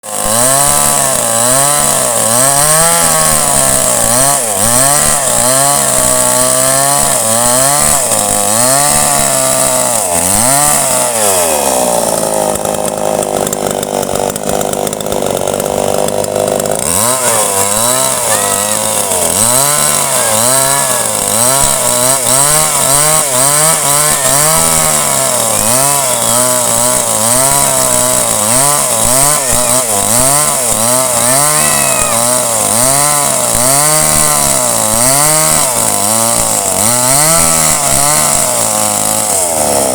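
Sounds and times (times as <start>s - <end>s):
chainsaw running hard: 0.0s - 39.9s.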